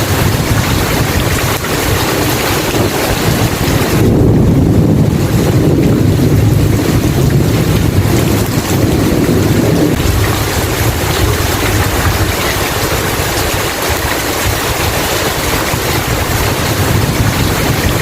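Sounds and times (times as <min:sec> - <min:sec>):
heavy rain: 0:00.0 - 0:18.0
low rumble of thunder: 0:00.0 - 0:18.0.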